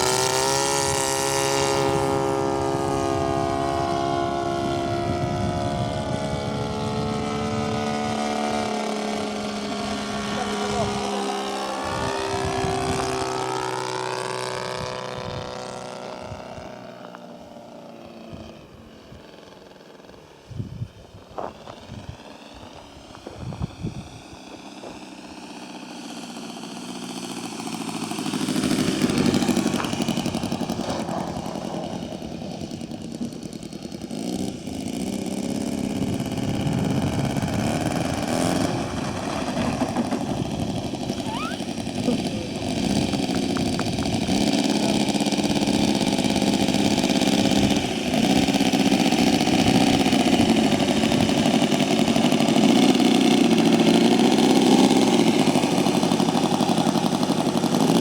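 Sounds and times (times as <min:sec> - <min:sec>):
model aircraft engine droning: 0:00.0 - 0:58.0.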